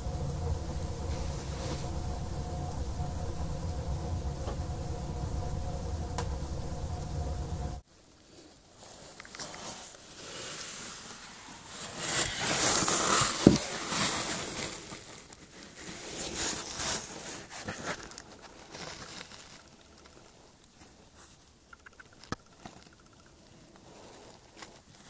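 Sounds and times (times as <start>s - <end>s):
fire crackling in stove: 0.0s - 25.0s
rustling: 0.0s - 25.0s.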